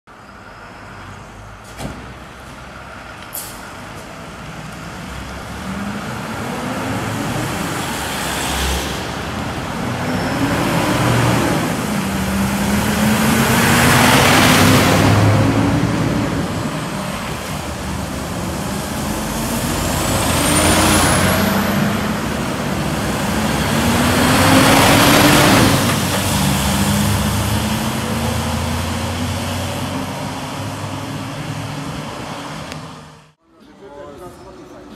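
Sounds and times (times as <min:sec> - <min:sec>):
fire engines accelerating past: 0:02.8 - 0:33.4.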